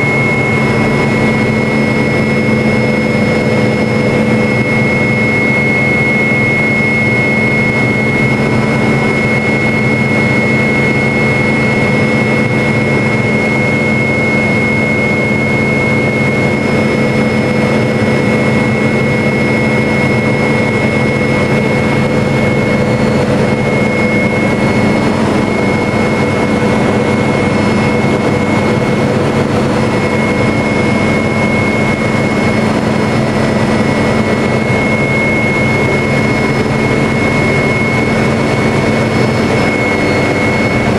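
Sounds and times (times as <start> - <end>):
helicopter turbine whine: 0.0 - 40.9
rotor drone: 0.0 - 40.9.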